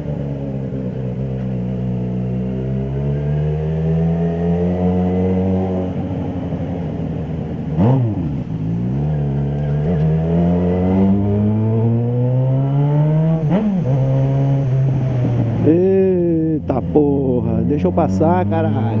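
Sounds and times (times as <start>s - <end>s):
motorcycle engine accelerating: 0.0s - 19.0s
motorcycle engine revving: 0.0s - 19.0s.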